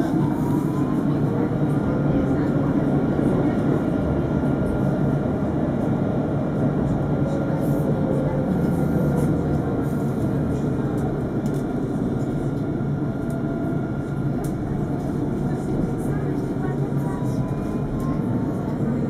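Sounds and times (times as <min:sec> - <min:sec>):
tram rolling rumble: 0:00.0 - 0:19.0.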